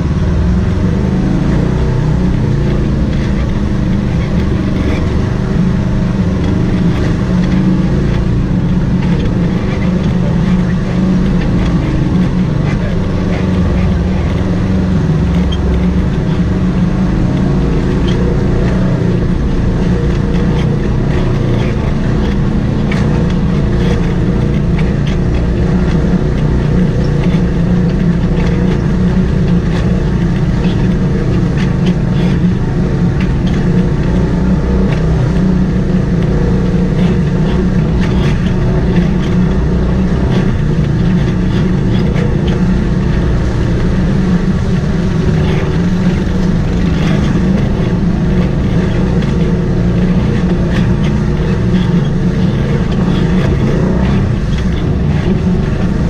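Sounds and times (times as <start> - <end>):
knocks and rattles over rocks: 0.0 - 56.0
vehicle engine running: 0.0 - 56.0.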